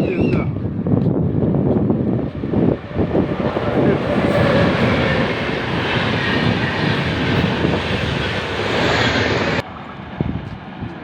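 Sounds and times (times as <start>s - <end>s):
train passing rumble: 0.0s - 11.0s.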